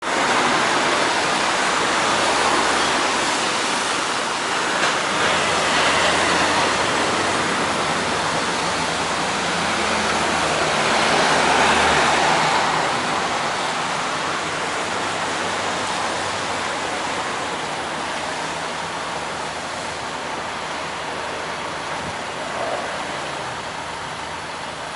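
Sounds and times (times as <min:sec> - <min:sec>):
passing vehicles: 0:00.0 - 0:24.9.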